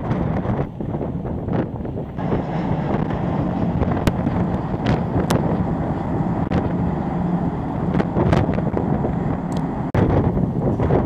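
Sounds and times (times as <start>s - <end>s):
ship low hum: 0.0s - 11.0s
wind buffeting microphone: 0.0s - 11.0s.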